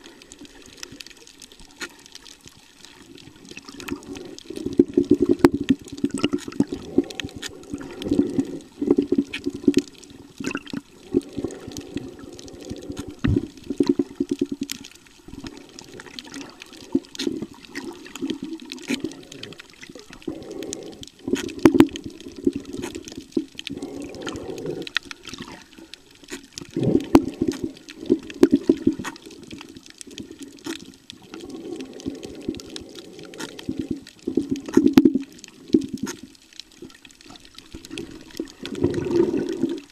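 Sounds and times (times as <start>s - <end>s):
muffled underwater noise: 0.0s - 36.8s.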